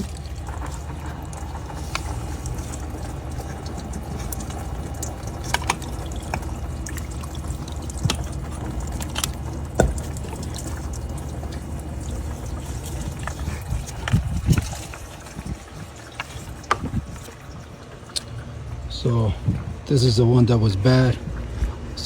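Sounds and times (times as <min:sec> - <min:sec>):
coolant pouring and trickling: 0:00.0 - 0:22.0.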